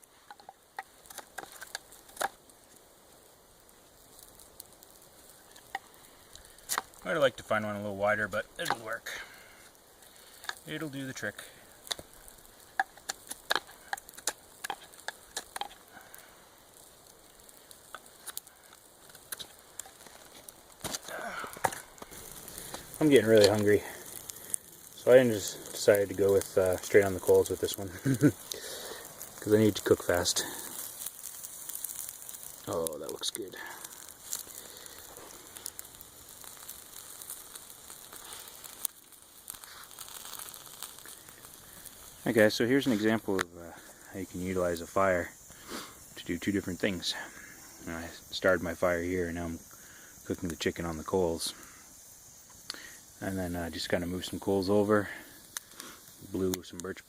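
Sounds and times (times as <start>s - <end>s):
campfire popping and crackling: 0.0s - 57.0s
chicken sizzling on coals: 0.0s - 57.0s.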